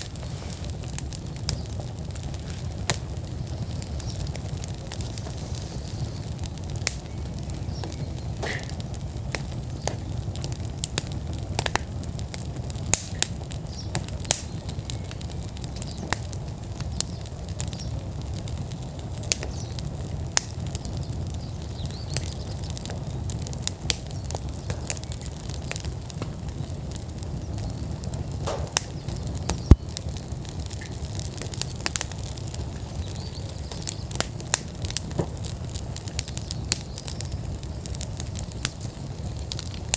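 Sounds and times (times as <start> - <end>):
fire crackling and popping: 0.0 - 39.9
flames rumbling: 0.0 - 39.9.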